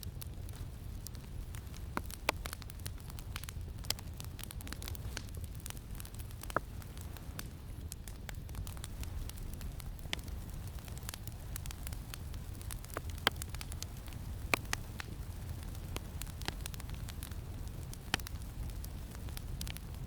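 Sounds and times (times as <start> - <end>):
campfire crackling: 0.0 - 20.0
low wind rumble: 0.0 - 20.0.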